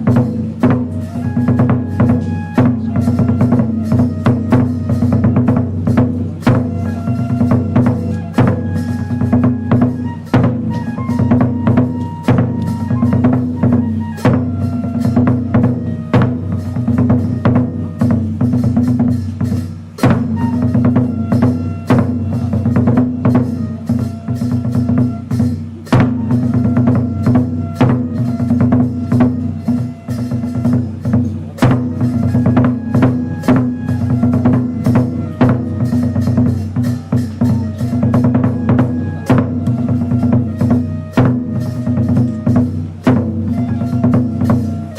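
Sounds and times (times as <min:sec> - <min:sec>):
drum strikes: 0:00.0 - 0:44.9.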